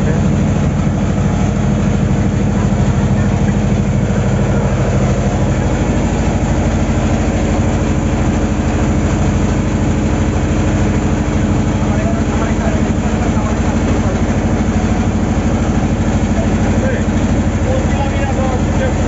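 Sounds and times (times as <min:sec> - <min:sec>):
boat engine throbbing: 0:00.0 - 0:19.0.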